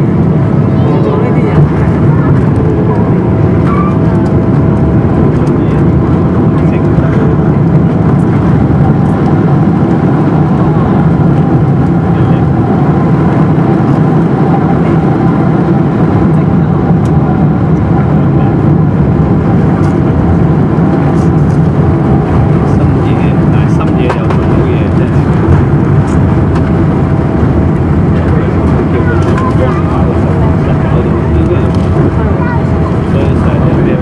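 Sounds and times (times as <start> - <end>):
airplane cabin roar: 0.0 - 34.0.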